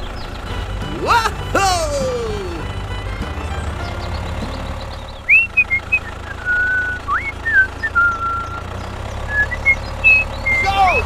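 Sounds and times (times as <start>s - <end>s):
whistled notes: 0.7s - 11.0s.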